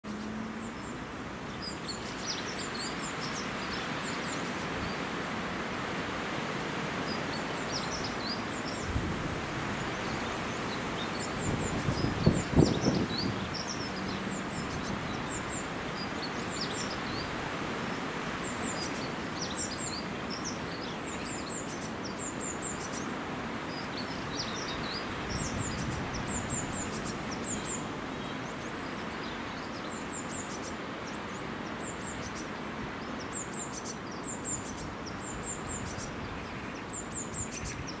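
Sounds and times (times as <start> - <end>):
small birds chirping: 0.0 - 5.1, 9.7 - 38.0
outdoor background noise: 0.0 - 38.0.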